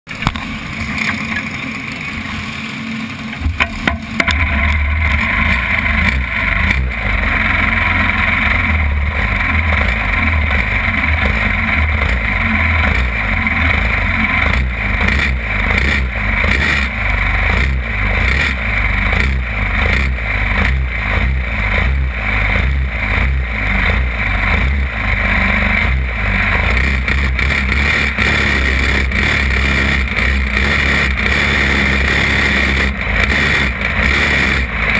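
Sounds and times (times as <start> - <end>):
kart engine running: 0.1 - 34.9.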